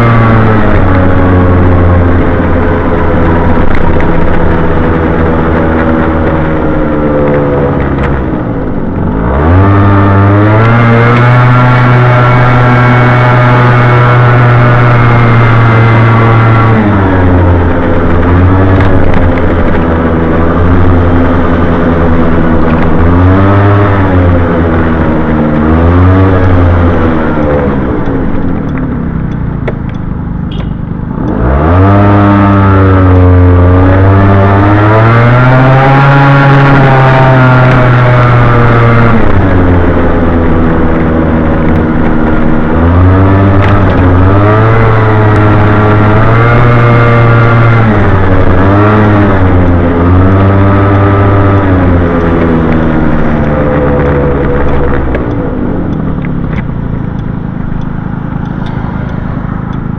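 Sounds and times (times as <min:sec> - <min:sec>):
scooter engine accelerating: 0:00.0 - 0:59.9.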